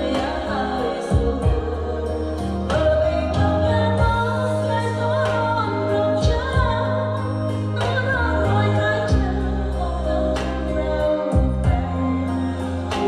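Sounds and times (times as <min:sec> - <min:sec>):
backing track with bass and drums: 0:00.0 - 0:13.0
person singing karaoke: 0:00.0 - 0:13.0.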